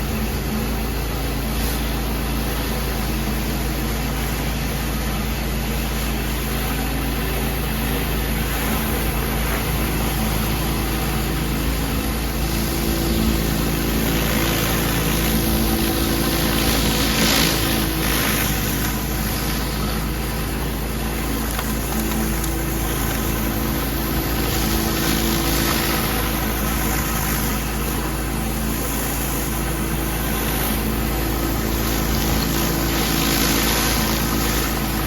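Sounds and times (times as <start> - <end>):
high-pressure water spray hiss: 0.0 - 35.0
pressure washer engine running: 0.0 - 35.0.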